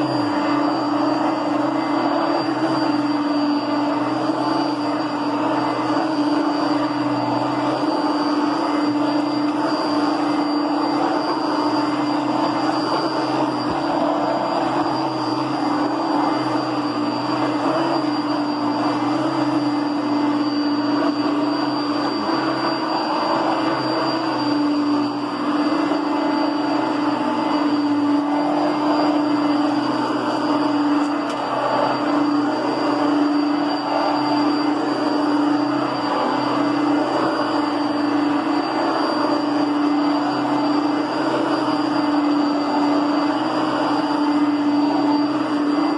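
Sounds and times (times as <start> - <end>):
vacuum cleaner motor running: 0.0 - 45.9.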